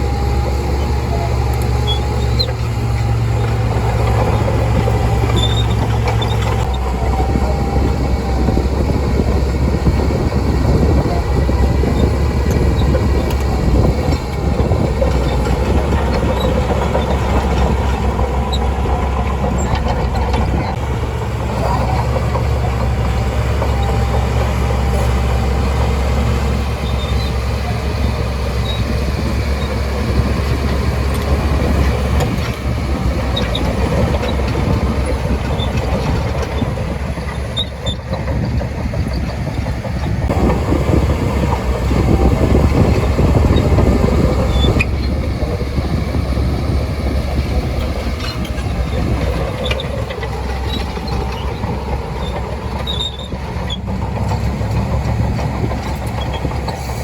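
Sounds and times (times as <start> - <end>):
bulldozer diesel engine rumbling: 0.0 - 57.0
steel tracks clanking and squeaking: 0.0 - 57.0.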